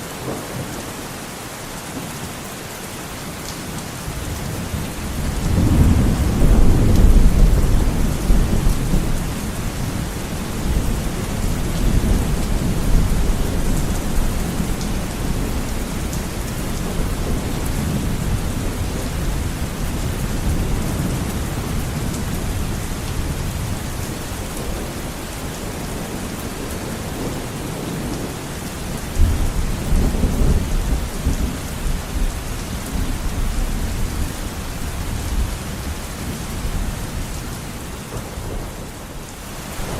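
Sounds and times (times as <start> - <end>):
heavy rain on a window: 0.0 - 39.9
thunder rumbling: 4.1 - 26.2, 26.8 - 39.9.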